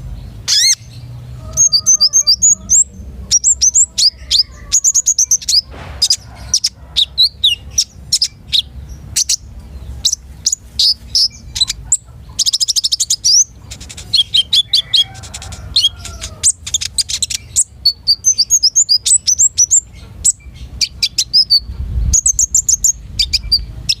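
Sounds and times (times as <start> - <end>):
bird chirping and whistling: 0.4 - 11.8, 12.4 - 24.0.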